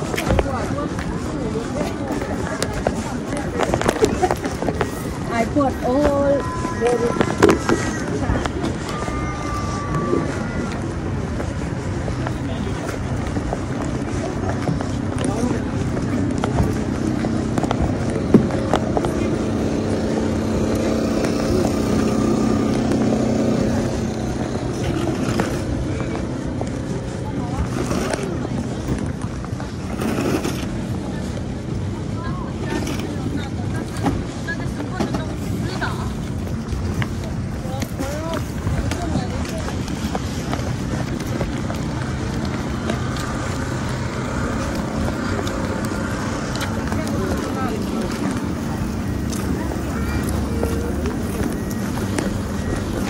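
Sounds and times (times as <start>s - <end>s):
rumbling noise: 0.0s - 53.0s.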